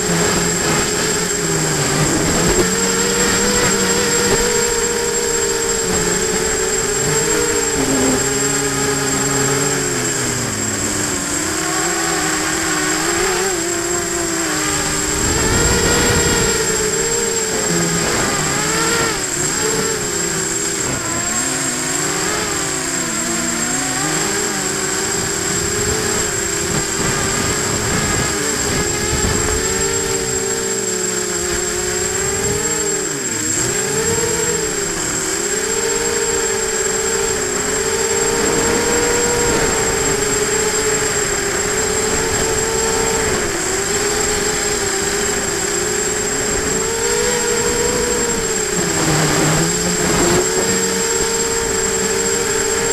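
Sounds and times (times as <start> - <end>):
drone motors whining: 0.0 - 52.9
wind noise: 0.0 - 52.9.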